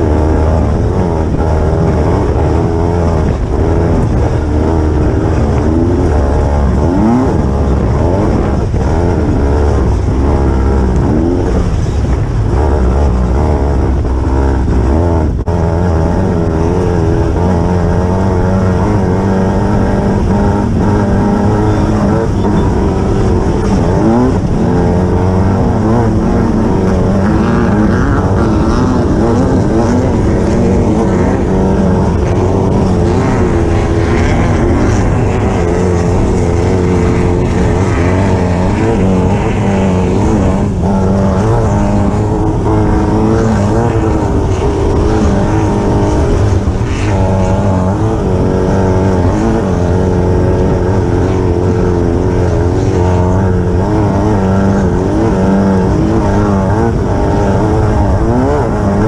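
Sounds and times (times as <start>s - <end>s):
buggy engine revving: 0.0s - 59.0s.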